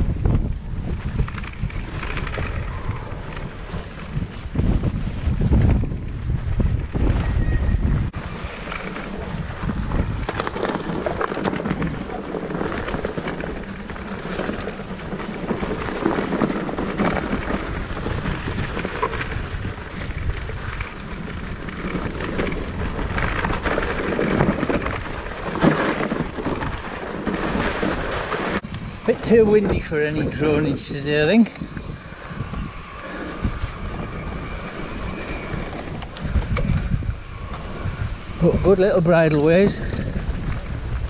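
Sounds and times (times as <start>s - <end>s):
bike clicking and rattling: 0.0s - 41.0s
bike tyres on leaves and dirt: 0.0s - 41.0s
wind on microphone: 0.0s - 41.0s.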